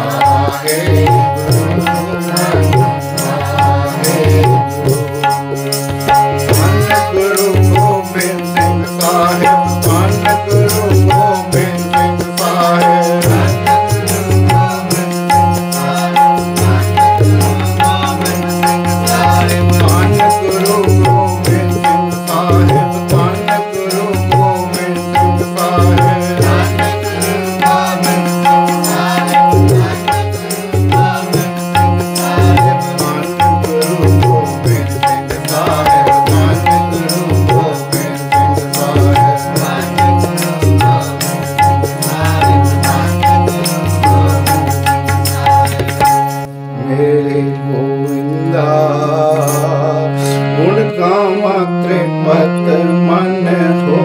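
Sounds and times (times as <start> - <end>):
tabla rhythm: 0.0 - 46.6
harmonium chords: 0.0 - 54.0
man singing: 0.0 - 54.0.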